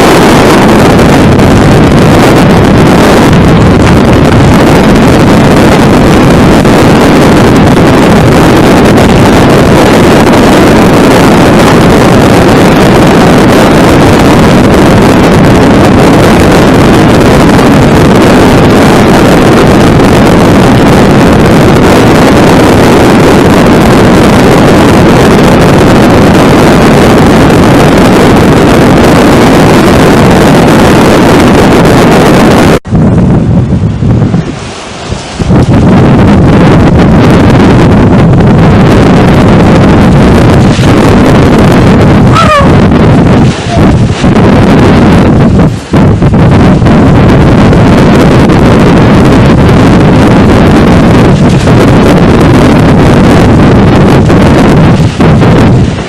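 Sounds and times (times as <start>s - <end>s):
strong wind rushing: 0.0s - 56.0s.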